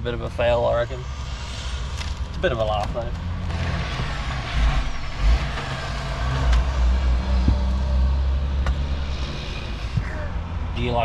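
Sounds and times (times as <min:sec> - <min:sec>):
heavy truck traffic passing: 0:00.0 - 0:11.0.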